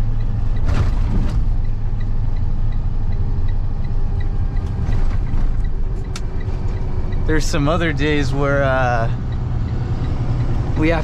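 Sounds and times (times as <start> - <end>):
truck engine and road rumble: 0.0 - 11.0
light ticking: 1.6 - 11.0.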